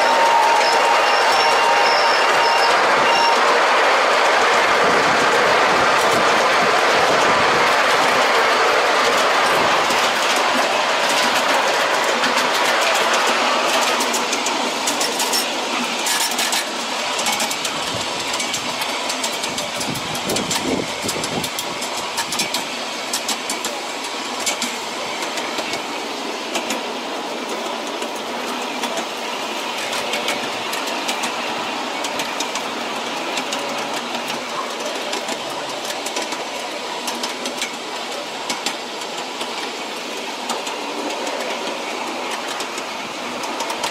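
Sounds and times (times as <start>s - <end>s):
miniature railway wheels clattering: 0.0s - 43.9s.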